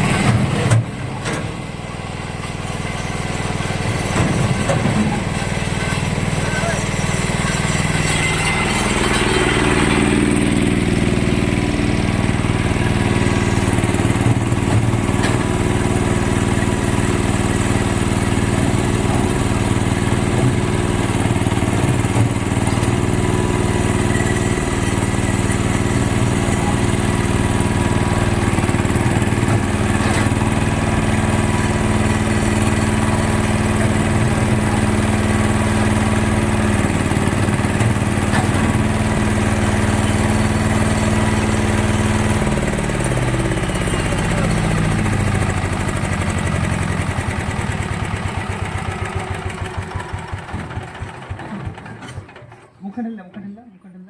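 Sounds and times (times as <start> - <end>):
construction machine engine running: 0.0 - 52.8.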